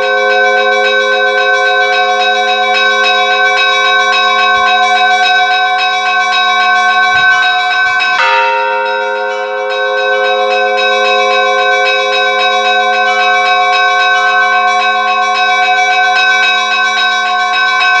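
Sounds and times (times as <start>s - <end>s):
hum of large bells: 0.0s - 18.0s
small church bells ringing: 0.0s - 18.0s.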